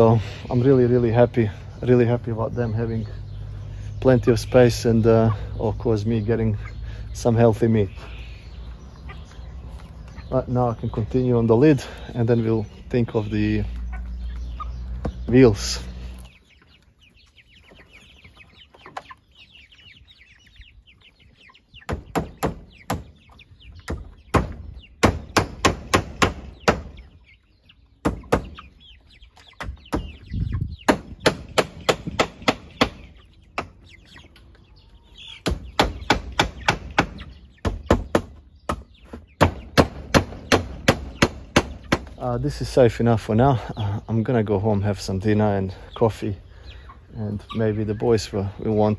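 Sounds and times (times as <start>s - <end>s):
chickens clucking: 0.0s - 48.9s.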